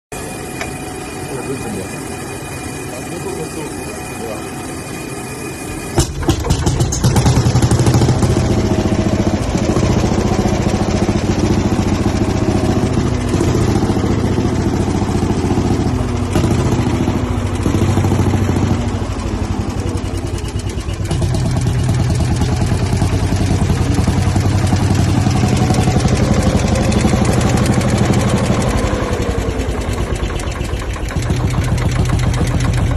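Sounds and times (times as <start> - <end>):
tractor engine chugging: 0.1 - 32.9.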